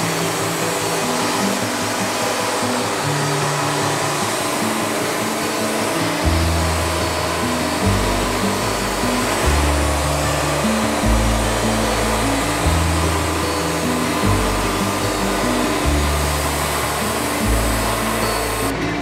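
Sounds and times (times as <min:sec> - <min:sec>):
background music: 0:00.0 - 0:19.0
band saw cutting log: 0:00.0 - 0:19.0.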